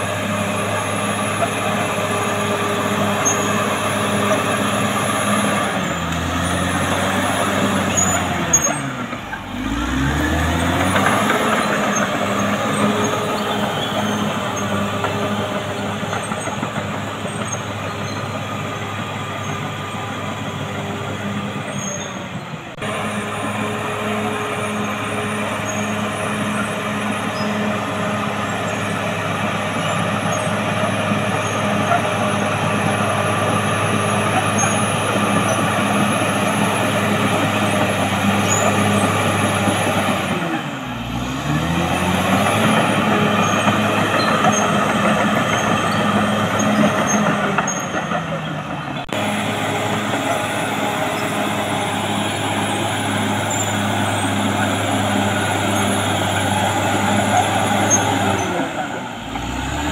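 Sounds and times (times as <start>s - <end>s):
diesel bulldozer engine under load: 0.0s - 59.9s.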